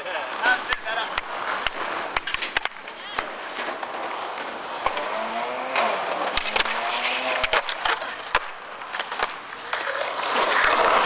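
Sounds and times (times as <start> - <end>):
skateboard clacks: 0.0 - 11.0
skateboard wheels rolling on concrete: 0.0 - 11.0.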